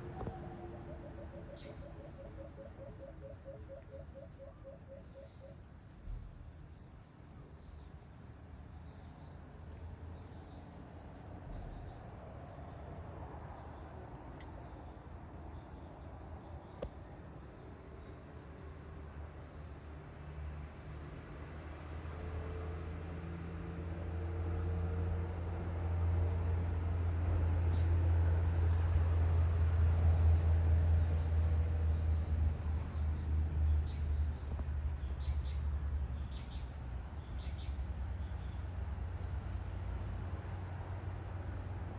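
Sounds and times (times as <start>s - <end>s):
high-pitched insect chorus: 0.0s - 22.9s, 31.0s - 41.9s.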